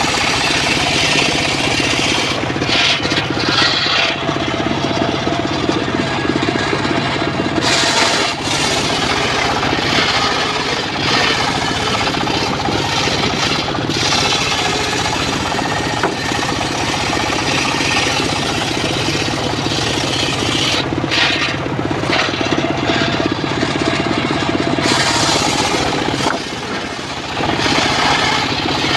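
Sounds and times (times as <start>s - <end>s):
circular saw blade cutting log: 0.0s - 28.9s
saw engine drone: 0.0s - 28.9s.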